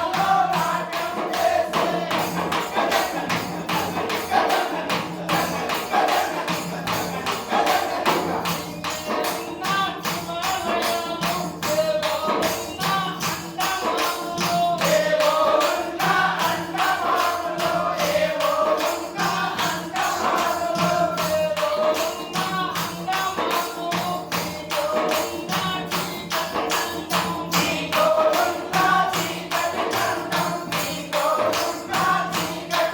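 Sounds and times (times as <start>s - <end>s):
jingling hand percussion: 0.0s - 32.9s.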